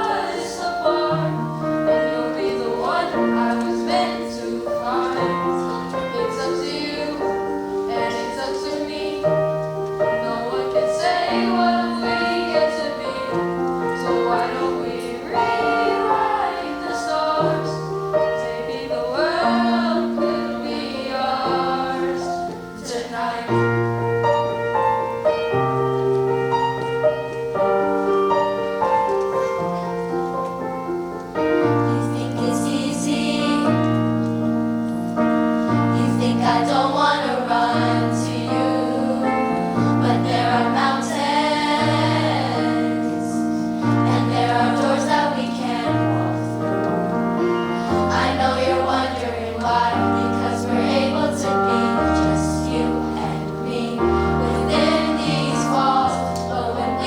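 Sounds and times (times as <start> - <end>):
choir singing: 0.0 - 25.6, 31.3 - 57.0
piano accompaniment: 0.0 - 57.0.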